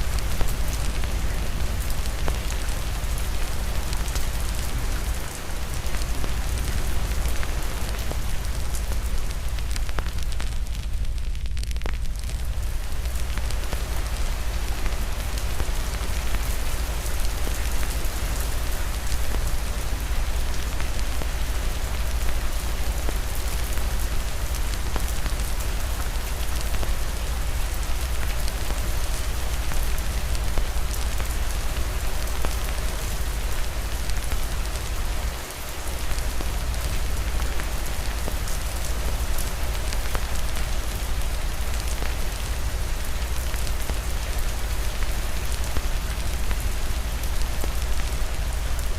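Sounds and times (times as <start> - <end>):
heavy rain patter: 0.0 - 48.9.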